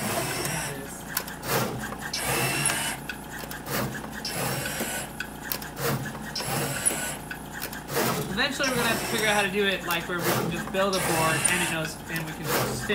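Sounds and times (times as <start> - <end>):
gantry motors whirring: 0.0 - 12.9.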